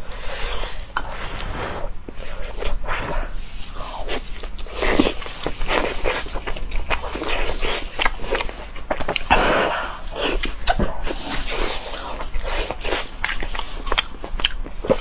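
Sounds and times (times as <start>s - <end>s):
chewing meat: 1.8s - 15.0s.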